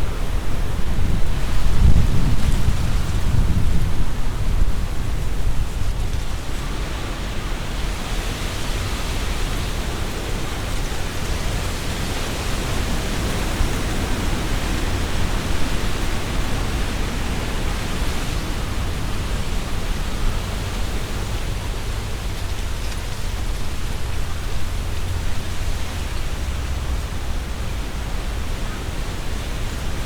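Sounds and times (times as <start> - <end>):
leaves rustling: 0.0 - 30.0
strong wind through trees: 0.0 - 30.0.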